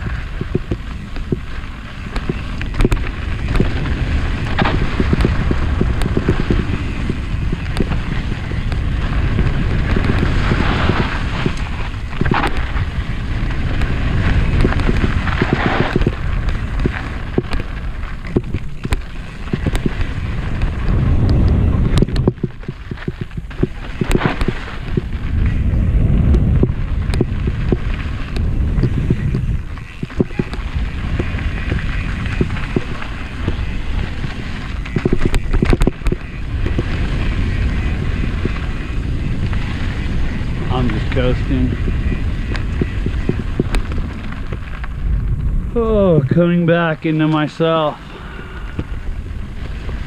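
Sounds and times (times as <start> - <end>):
bike clicks and rattles: 0.0 - 41.2
tyres rolling over dirt: 0.0 - 50.0
wind buffeting microphone: 0.0 - 50.0.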